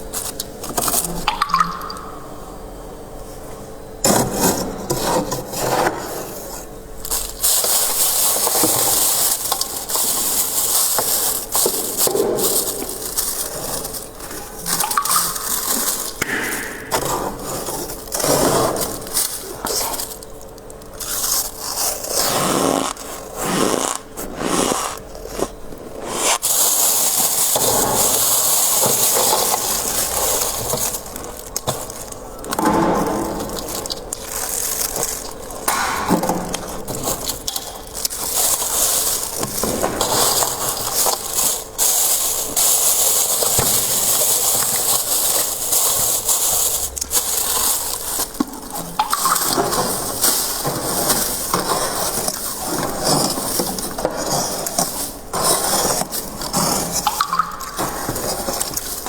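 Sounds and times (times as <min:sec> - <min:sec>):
frost being scraped: 0:04.2 - 0:20.2, 0:20.9 - 0:35.7, 0:36.6 - 0:57.4
ice crunching: 0:04.2 - 0:59.0.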